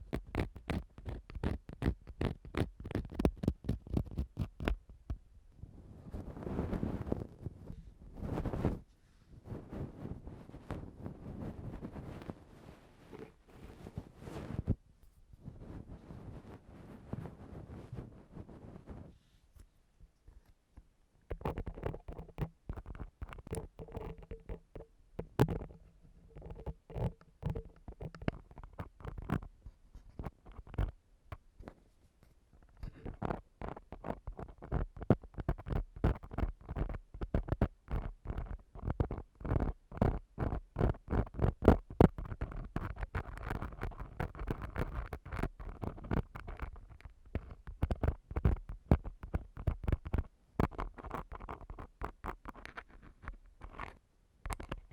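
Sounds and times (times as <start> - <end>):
ear-cleaning tool scraping microphone: 6.1 - 8.8, 9.4 - 14.8, 15.4 - 19.7, 21.3 - 31.0, 32.7 - 54.9.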